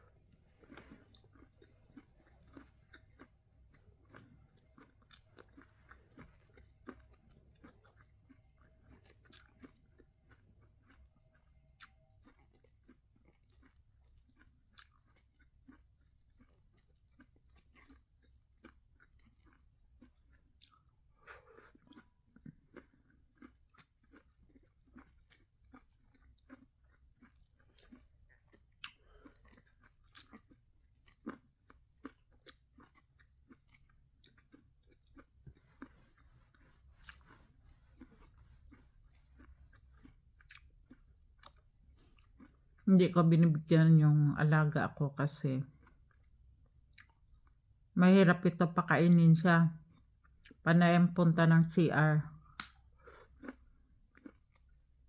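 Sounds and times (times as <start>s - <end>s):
person chewing corn: 0.0s - 42.9s, 45.6s - 48.0s, 49.8s - 50.6s, 52.3s - 55.0s.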